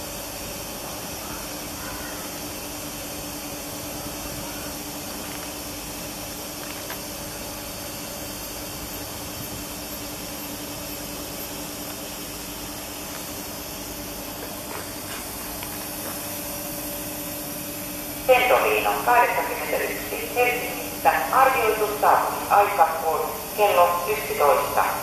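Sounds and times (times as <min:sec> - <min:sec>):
electric train hiss and hum: 0:00.0 - 0:25.0.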